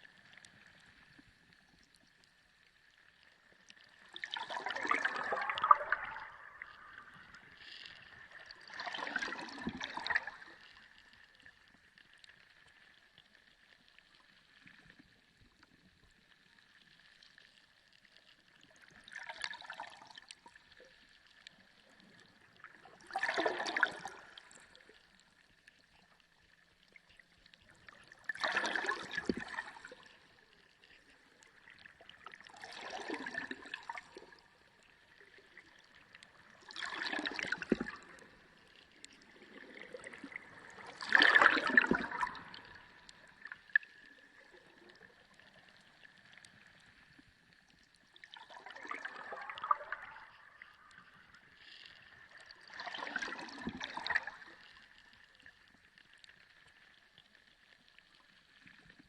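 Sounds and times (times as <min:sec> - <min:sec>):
underwater gurgling and bubbling: 0:00.0 - 0:59.0.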